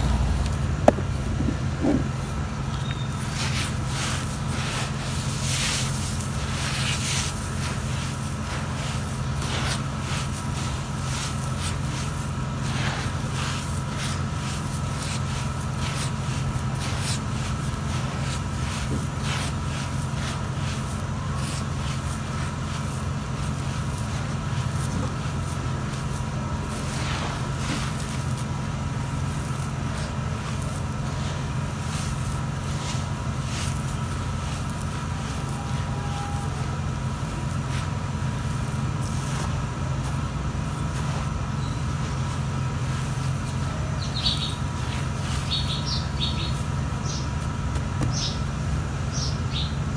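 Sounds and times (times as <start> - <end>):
hands crumbling dry soil: 0.0 - 49.4
steady low hum: 0.0 - 49.9.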